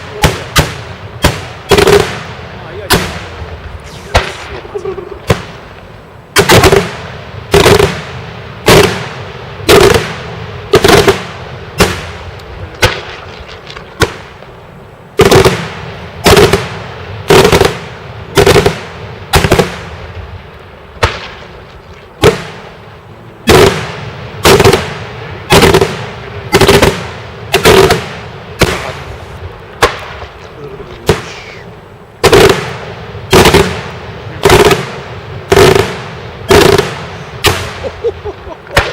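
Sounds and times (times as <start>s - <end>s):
fireworks banging with echo: 0.0s - 38.9s.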